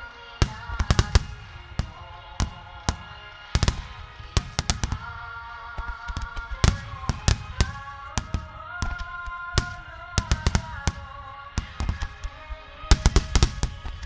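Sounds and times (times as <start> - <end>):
firework shells bursting: 0.4 - 12.3, 12.9 - 14.0.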